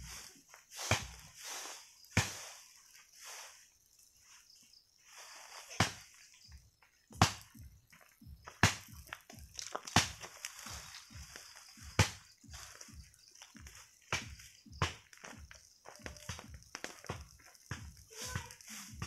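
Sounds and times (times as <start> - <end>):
broom sweeping dry leaves: 0.0 - 6.5, 9.3 - 19.0.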